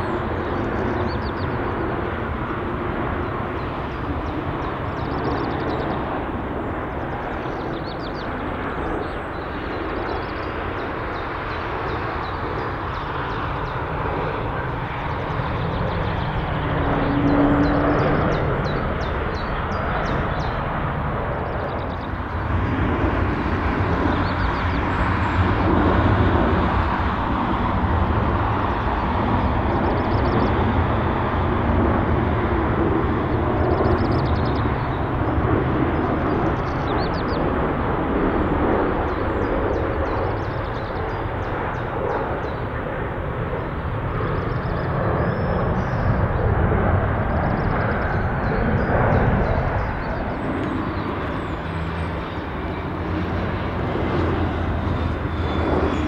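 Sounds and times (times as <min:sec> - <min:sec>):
distant jet engines rumbling: 0:00.0 - 0:56.0.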